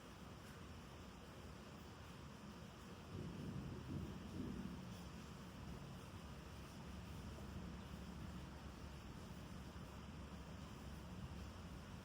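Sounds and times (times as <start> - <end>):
torrential rain: 0.0 - 12.0.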